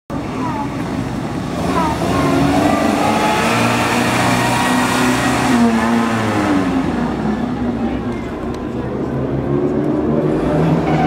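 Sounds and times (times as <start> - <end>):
car engine revving: 1.0 - 11.0.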